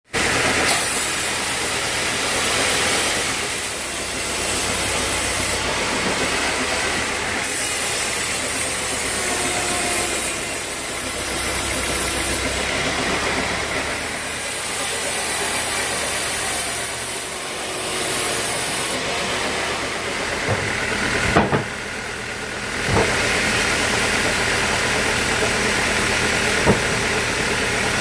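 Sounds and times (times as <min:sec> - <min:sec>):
sawmill machinery drone: 0:00.1 - 0:28.0.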